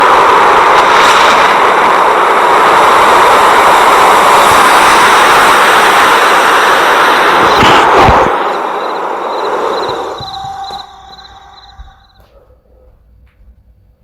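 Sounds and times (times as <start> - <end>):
boat rushing noise: 0.0 - 12.0.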